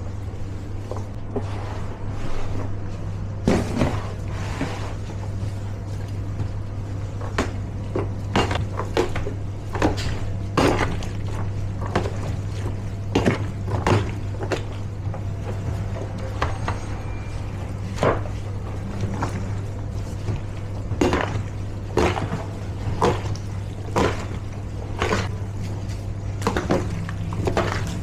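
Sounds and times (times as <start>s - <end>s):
kitchen equipment humming: 0.0s - 28.0s.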